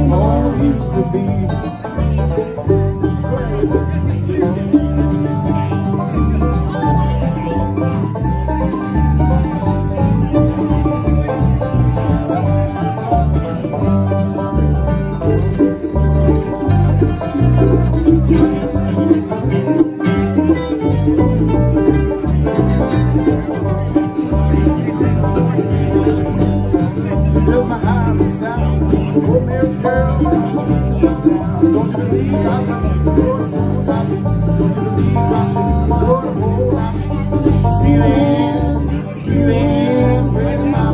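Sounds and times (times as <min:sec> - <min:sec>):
electric bass line: 0:00.0 - 0:40.9
mandolin: 0:00.0 - 0:40.9
rolling banjo: 0:00.0 - 0:40.9
strummed acoustic guitar: 0:00.0 - 0:40.9.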